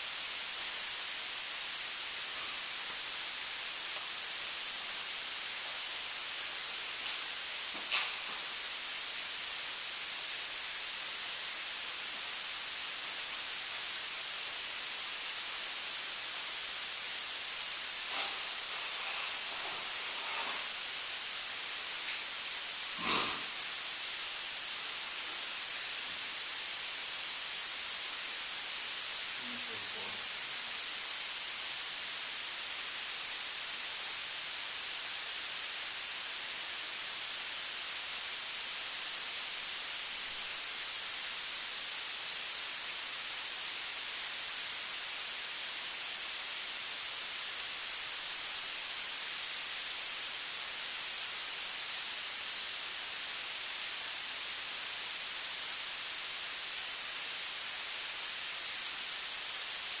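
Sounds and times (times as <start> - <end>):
static hiss: 0.0 - 60.0.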